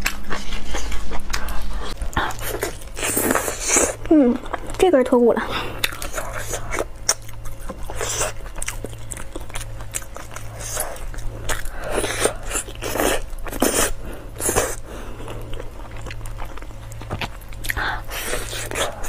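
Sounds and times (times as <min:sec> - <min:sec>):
biting and chewing meat: 0:00.0 - 0:19.0
low steady hum: 0:00.0 - 0:19.0.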